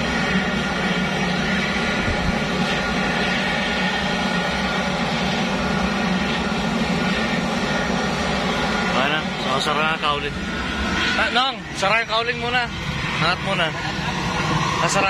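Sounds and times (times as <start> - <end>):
turboprop engine droning and whining: 0.0 - 15.0.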